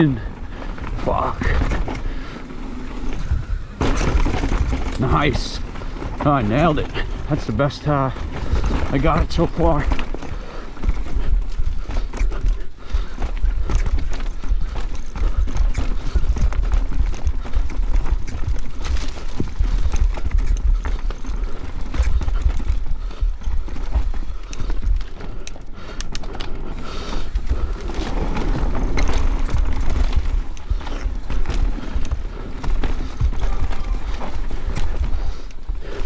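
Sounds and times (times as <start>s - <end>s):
bike chain and frame rattling: 0.0s - 36.0s
tyres crunching over dirt: 0.0s - 36.0s.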